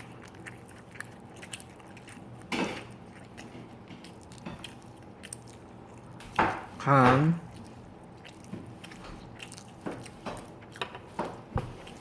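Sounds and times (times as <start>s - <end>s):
person chewing close to microphone: 0.0s - 12.0s.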